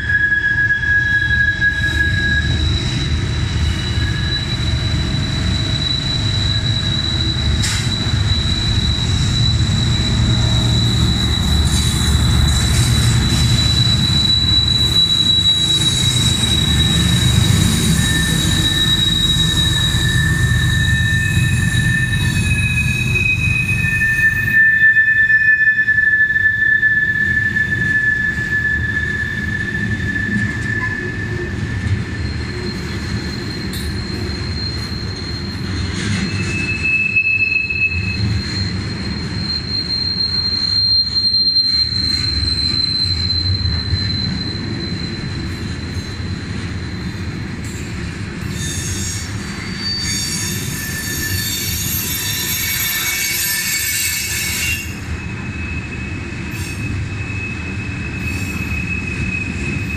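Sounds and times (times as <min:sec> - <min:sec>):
bright squeal and hiss: 0:00.0 - 0:59.9
high-pitched wheel squeals: 0:00.0 - 0:59.9
train wheels rumbling on rails: 0:00.0 - 0:59.9.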